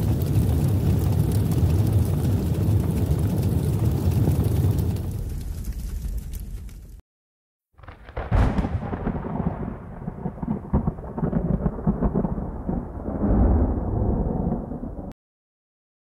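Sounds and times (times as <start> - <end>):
rolling thunder with crackles: 0.0 - 7.0, 7.8 - 15.2.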